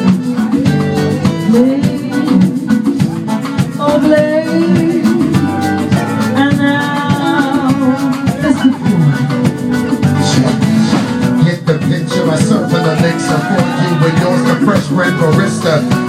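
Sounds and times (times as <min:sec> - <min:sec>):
acoustic guitar: 0:00.0 - 0:16.0
steady percussion beat: 0:00.0 - 0:16.0.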